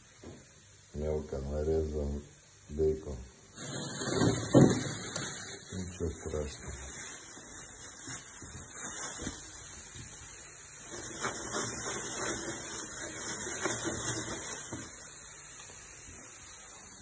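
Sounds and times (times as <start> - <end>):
vegetables and bacon frying: 0.0 - 17.0.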